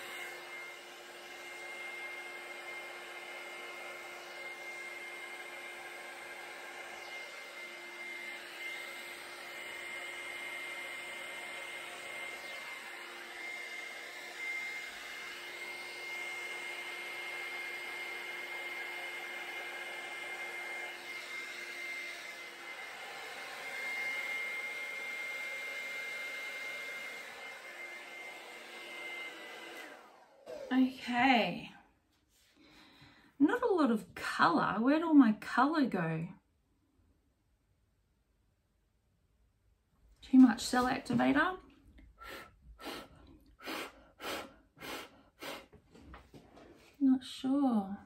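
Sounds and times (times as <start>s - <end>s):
hair dryer blowing: 0.0s - 31.7s, 40.2s - 48.0s.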